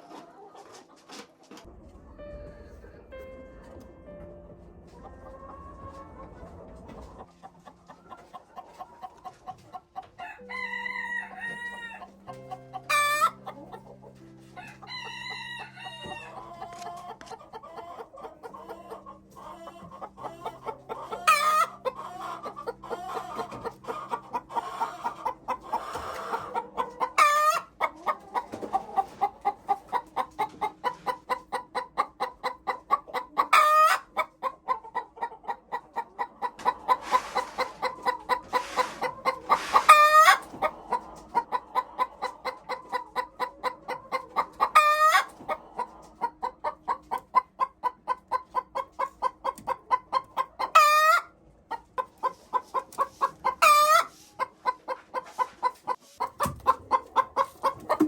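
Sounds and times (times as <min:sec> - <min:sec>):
chickens clucking: 0:00.0 - 0:58.0
soft background music: 0:00.0 - 0:58.0.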